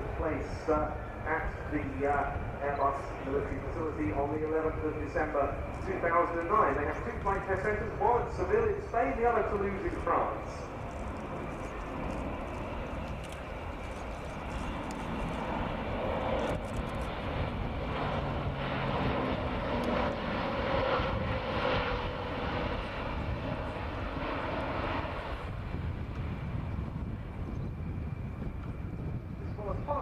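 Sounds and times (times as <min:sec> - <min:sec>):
turboprop aircraft flying past: 0:00.0 - 0:30.0.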